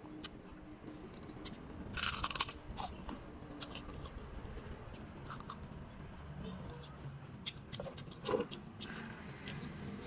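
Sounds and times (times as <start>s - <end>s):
person chewing food: 0.1s - 10.0s.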